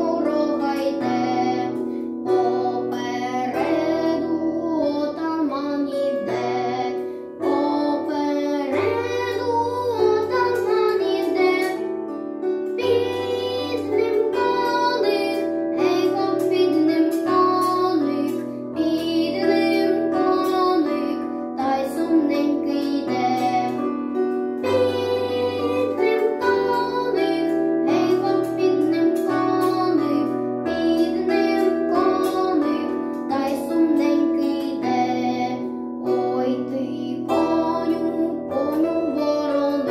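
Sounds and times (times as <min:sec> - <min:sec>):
boy singing: 0:00.0 - 0:11.9, 0:12.7 - 0:24.0, 0:24.6 - 0:39.9
instrumental accompaniment: 0:00.0 - 0:39.9.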